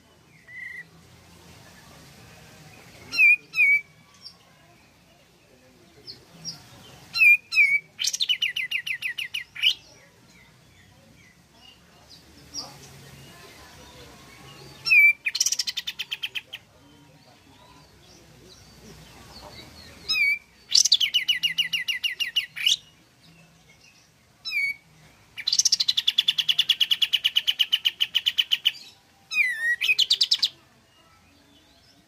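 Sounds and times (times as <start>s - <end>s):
bird singing chattering phrases: 0.0s - 1.0s, 2.6s - 32.0s.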